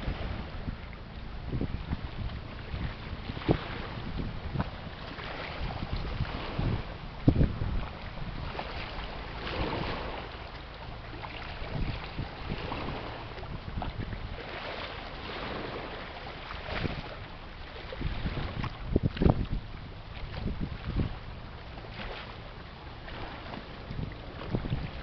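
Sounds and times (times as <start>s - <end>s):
wind buffeting microphone: 0.0s - 10.4s, 11.3s - 25.0s.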